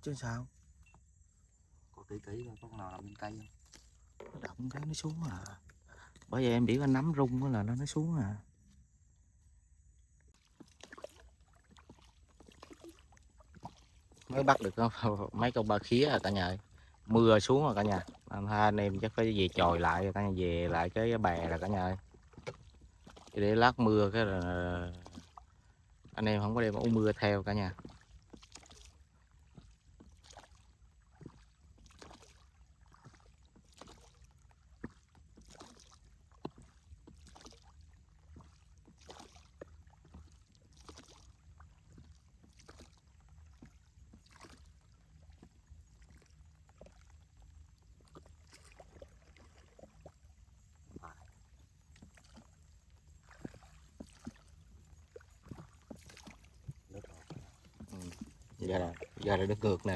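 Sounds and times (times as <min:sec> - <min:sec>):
paddle strokes in water: 0:00.0 - 0:59.9.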